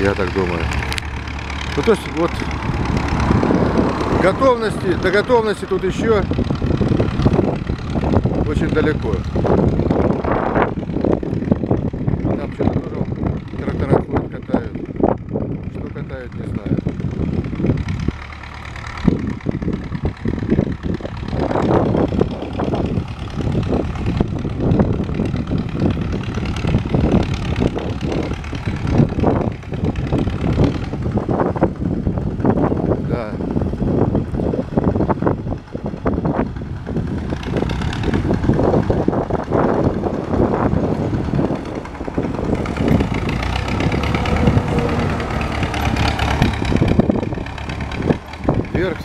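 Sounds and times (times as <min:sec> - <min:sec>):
diesel engine rumbling: 0:00.0 - 0:49.0.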